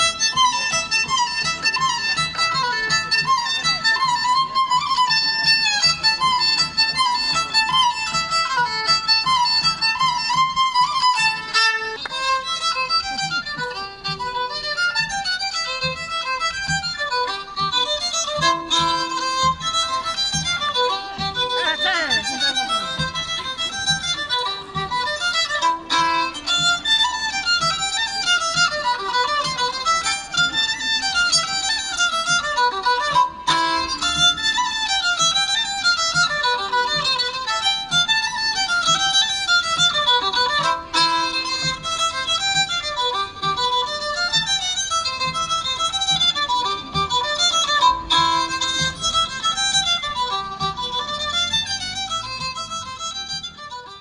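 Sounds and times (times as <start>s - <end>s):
fiddle playing fast folk tune: 0.0s - 54.0s.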